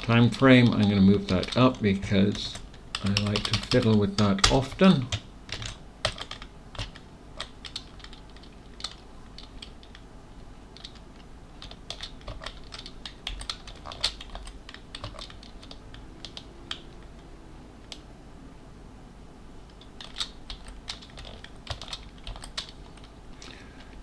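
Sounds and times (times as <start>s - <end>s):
computer keyboard typing: 0.0s - 18.1s, 19.6s - 24.0s.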